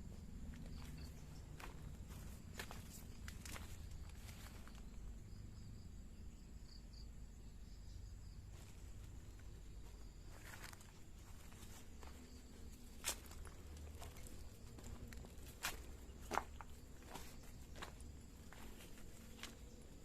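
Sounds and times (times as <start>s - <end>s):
rustling footsteps: 0.0s - 5.0s, 8.5s - 20.0s
insects chirping: 0.0s - 20.0s.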